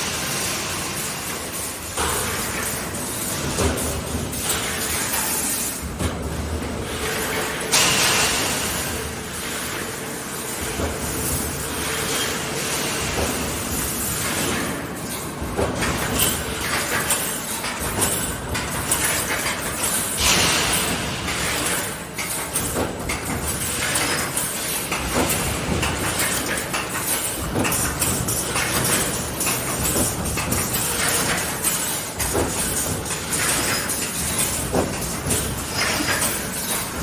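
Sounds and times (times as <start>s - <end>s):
welding machine clatter: 0.0s - 37.0s
metallic clinks and knocks: 1.0s - 37.0s.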